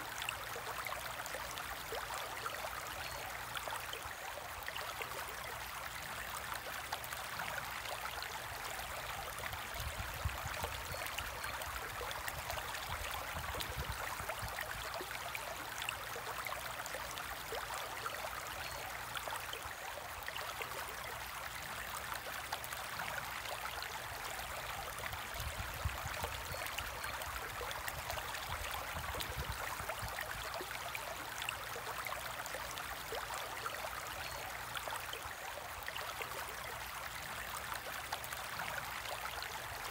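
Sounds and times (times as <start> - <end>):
water trickling and bubbling: 0.0 - 39.9.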